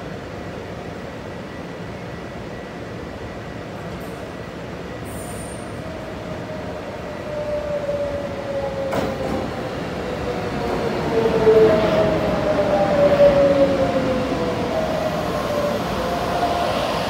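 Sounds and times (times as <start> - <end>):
train rumbling: 3.2 - 17.0.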